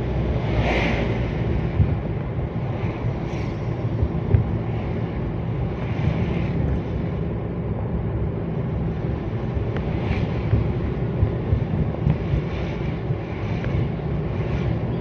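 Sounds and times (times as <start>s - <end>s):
van engine and tyres rumbling: 0.0s - 15.0s
wind on microphone: 0.0s - 15.0s.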